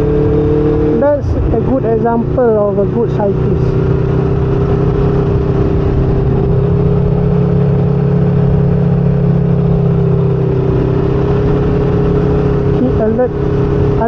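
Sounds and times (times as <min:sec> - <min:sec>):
motorcycle engine cruising: 0:00.0 - 0:14.0
wind rumbling on microphone: 0:00.0 - 0:14.0.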